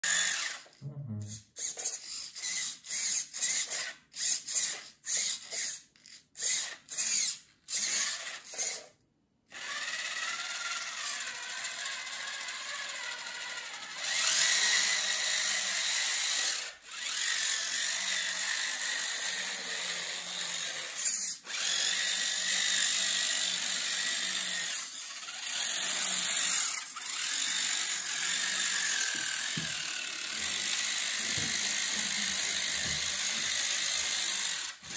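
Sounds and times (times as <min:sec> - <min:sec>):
small electric motor whining: 0:00.0 - 0:00.7, 0:01.3 - 0:08.9, 0:09.5 - 0:34.9.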